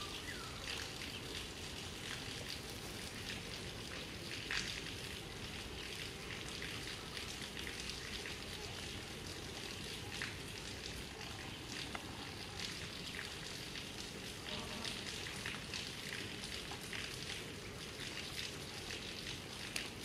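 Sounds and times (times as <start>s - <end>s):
light ticks of drips: 0.0s - 20.0s
outdoor background noise: 0.0s - 20.0s.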